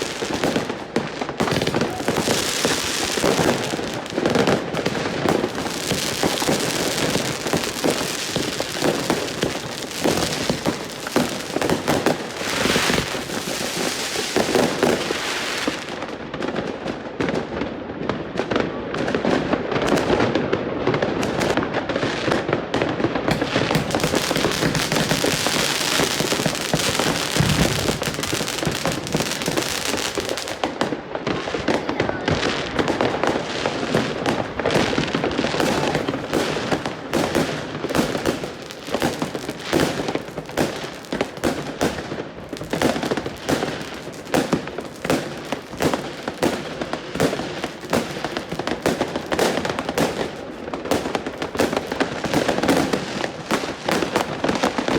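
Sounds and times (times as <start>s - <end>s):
fireworks crackling bangs: 0.0s - 54.9s.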